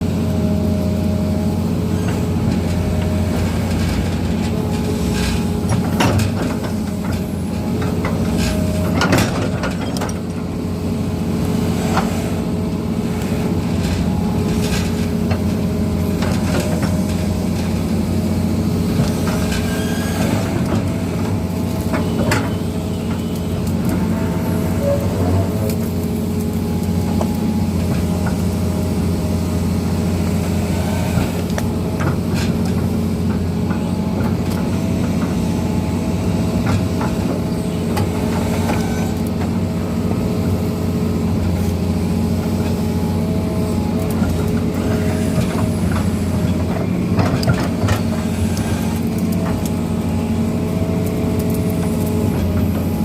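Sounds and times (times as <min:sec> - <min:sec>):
excavator diesel engine running: 0:00.0 - 0:53.0
excavator scraping embankment: 0:00.0 - 0:53.0.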